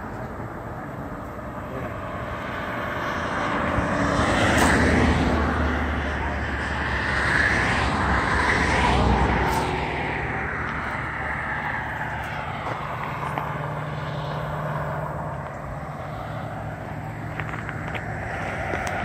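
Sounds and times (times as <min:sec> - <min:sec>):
highway traffic passing: 0:00.0 - 0:19.0
low engine hum: 0:00.0 - 0:19.0.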